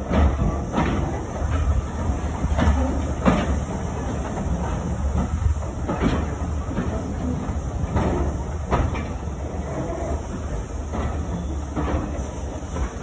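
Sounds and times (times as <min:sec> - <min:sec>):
train rolling rumble: 0:00.0 - 0:13.0
wheels knocking on rail joints: 0:00.0 - 0:13.0.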